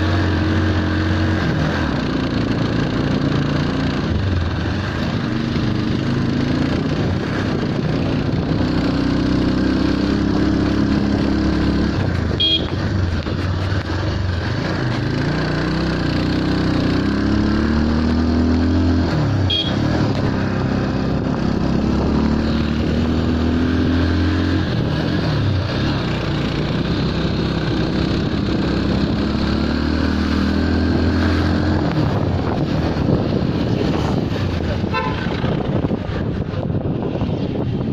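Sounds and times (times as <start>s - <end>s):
motorcycle engine revving: 0.0s - 37.9s
road and wind noise: 0.0s - 37.9s.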